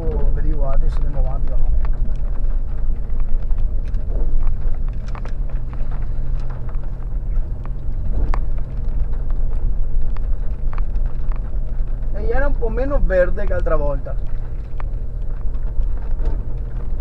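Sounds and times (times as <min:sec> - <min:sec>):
knocks and rattles: 0:00.0 - 0:17.0
vehicle engine running: 0:00.0 - 0:17.0.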